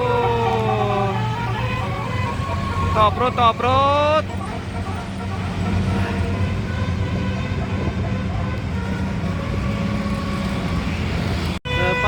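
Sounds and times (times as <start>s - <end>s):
bus engine droning: 0.0s - 12.0s
road traffic noise: 0.0s - 12.0s.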